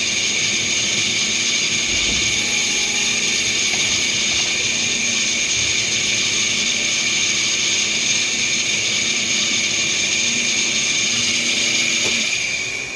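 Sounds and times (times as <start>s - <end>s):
high-pitched milling cutter whine: 0.0s - 12.9s
hiss: 0.0s - 12.9s.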